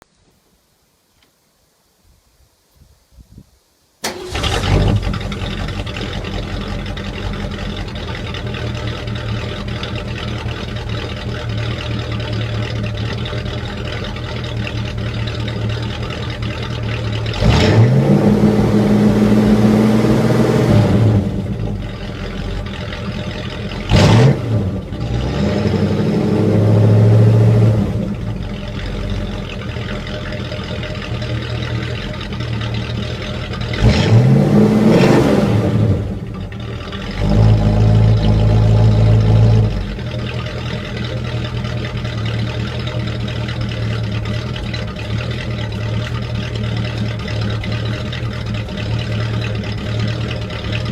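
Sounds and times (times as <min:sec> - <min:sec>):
car engine starting and idling: 0:04.0 - 0:50.9
engine revving: 0:04.0 - 0:50.9.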